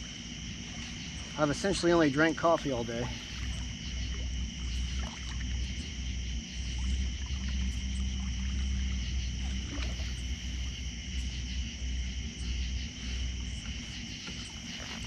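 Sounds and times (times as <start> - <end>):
water rumble: 0.0 - 15.0
high-pitched drone: 2.6 - 15.0.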